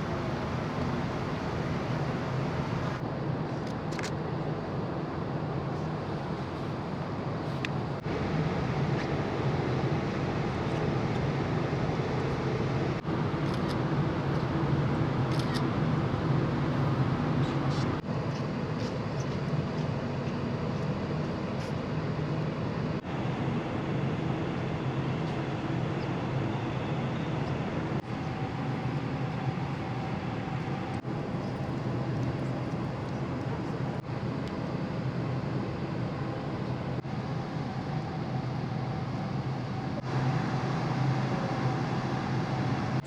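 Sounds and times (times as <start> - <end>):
faint steady whine: 0.0 - 43.0
ferry engines droning: 0.0 - 43.0.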